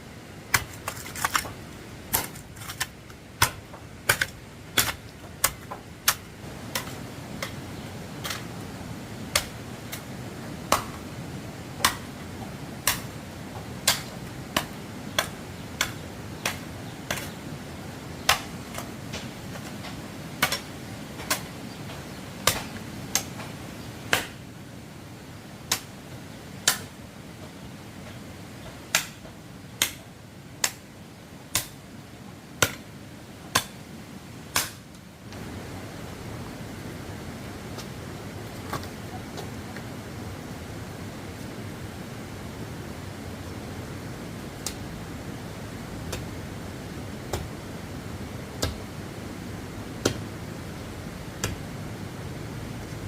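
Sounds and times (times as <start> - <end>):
low background noise: 0.0 - 53.0.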